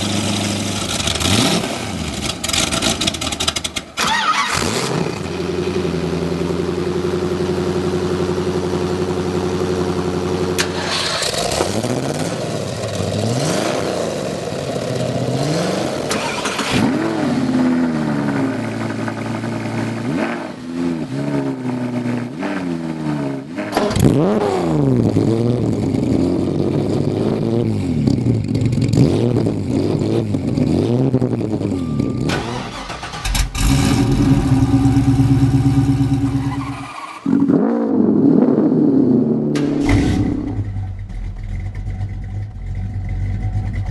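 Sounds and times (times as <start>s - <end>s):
engine revving and idling: 0.0s - 43.9s.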